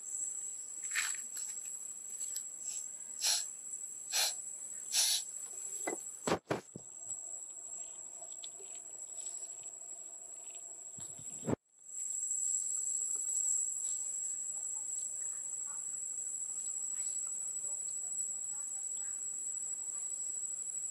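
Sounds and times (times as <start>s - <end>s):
insects droning: 0.0s - 20.9s.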